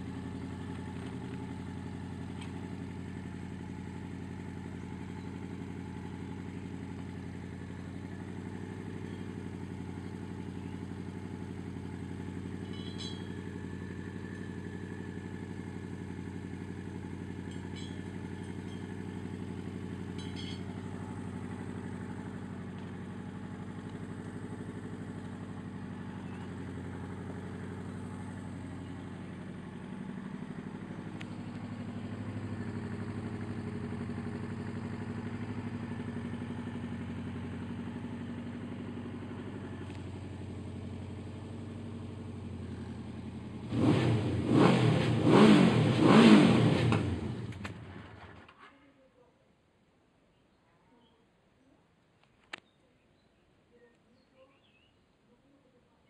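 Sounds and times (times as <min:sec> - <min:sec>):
engine throttle blips: 0:00.0 - 0:48.4
motorcycle engine idling: 0:00.0 - 0:48.5.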